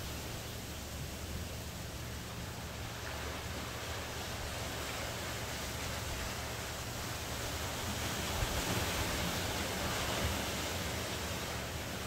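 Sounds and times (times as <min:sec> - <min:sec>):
ocean surf breaking on shore: 0:00.0 - 0:12.0.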